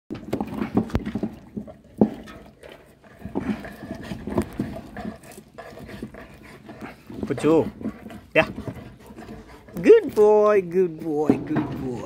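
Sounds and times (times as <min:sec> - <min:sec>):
dog gnawing on a bone: 0:00.2 - 0:10.7.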